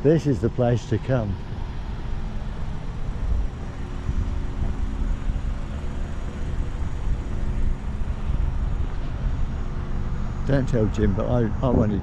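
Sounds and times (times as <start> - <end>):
car engine rumbling at low speed: 0.0 - 12.0
road noise: 0.0 - 12.0.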